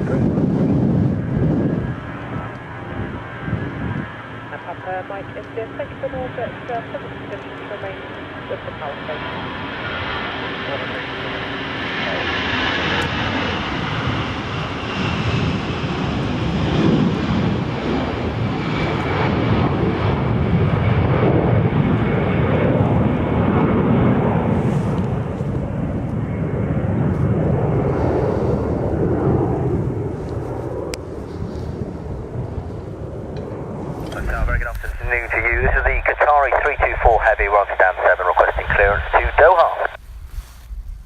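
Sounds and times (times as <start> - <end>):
airplane engines rumbling: 0.0 - 41.0.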